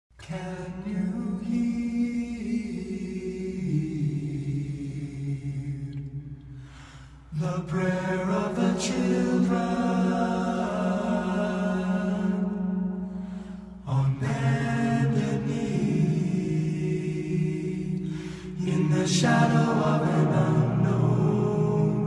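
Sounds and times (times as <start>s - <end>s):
voices singing a slow chant: 0.2s - 22.0s.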